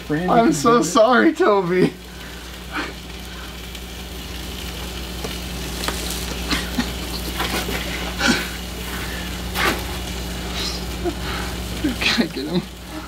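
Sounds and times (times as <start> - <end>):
food sizzling with small pops: 0.0 - 13.0
low electrical hum: 0.0 - 13.0.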